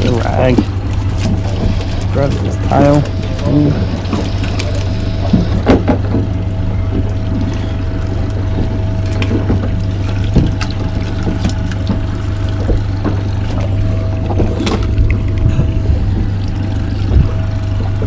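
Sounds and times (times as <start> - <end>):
boat engine droning: 0.0 - 18.0
faint steady whine: 0.0 - 18.0.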